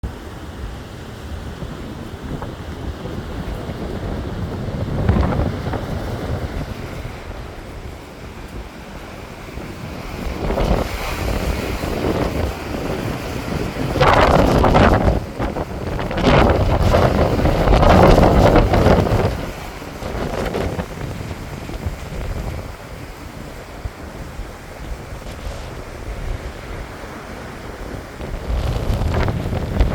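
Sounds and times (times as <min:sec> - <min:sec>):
sea waves breaking on shore: 0:00.0 - 0:29.9
wind buffeting microphone: 0:00.0 - 0:29.9.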